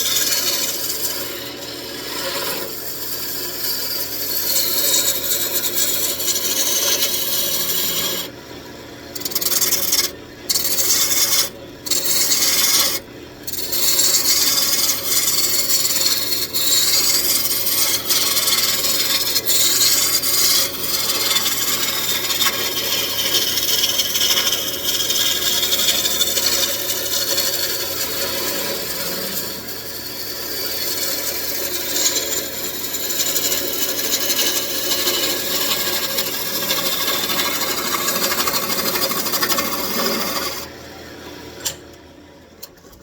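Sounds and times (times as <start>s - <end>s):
gouge cutting wood on lathe: 0.0s - 8.4s, 9.1s - 40.7s.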